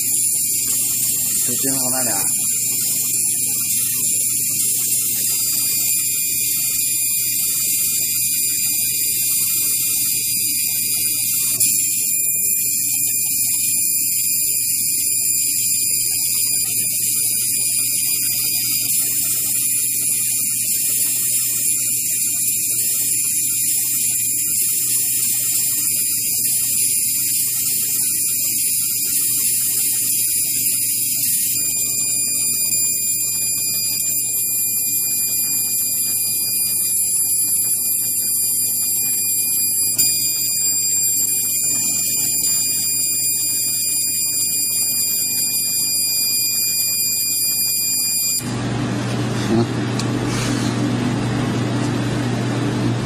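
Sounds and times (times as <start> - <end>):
high-pitched whining tones: 0.0 - 48.6
laser marking machine humming: 0.0 - 51.0.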